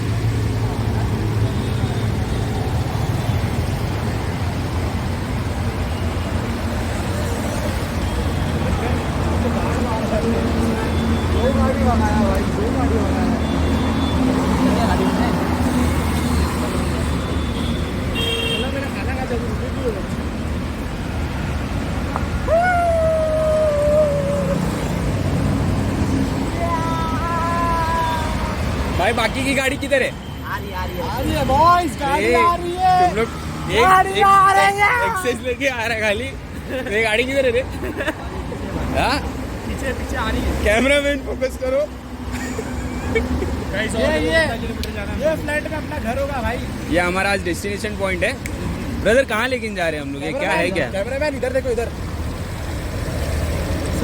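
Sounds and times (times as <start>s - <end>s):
road and traffic noise: 0.0s - 54.0s.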